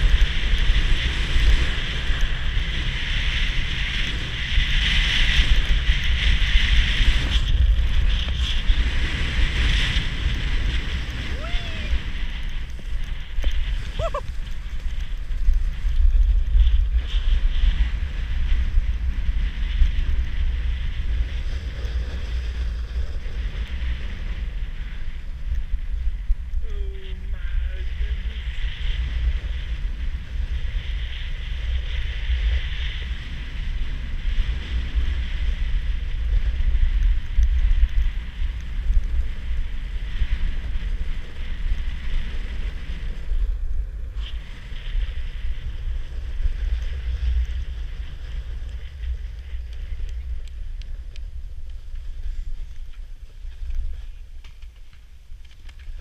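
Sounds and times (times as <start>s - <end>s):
ski edges sliding over snow: 0.0s - 56.0s
wind buffeting microphone: 0.0s - 56.0s.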